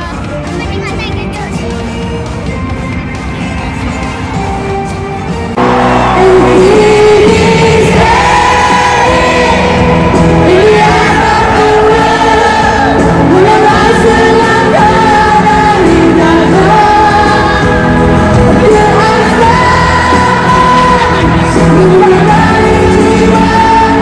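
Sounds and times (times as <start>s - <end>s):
pop song over sound system: 0.0s - 24.0s.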